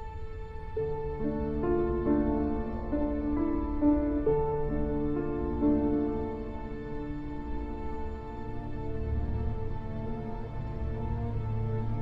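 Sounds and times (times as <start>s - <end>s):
gentle sustained chord music: 0.0s - 12.0s.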